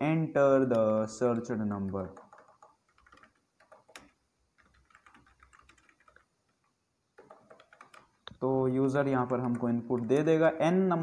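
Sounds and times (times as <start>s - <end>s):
faint keyboard typing: 0.6s - 10.6s.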